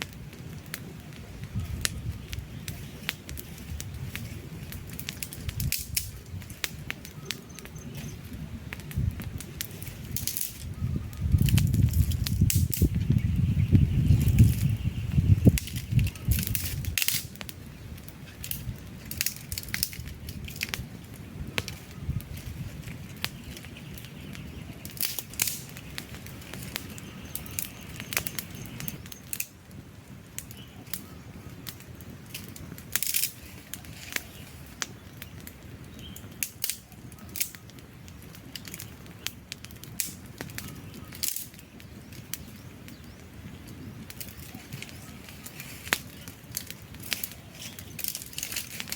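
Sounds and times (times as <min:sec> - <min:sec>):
campfire crackling and popping: 0:00.0 - 0:48.9
soft hiss of fire: 0:00.0 - 0:48.9.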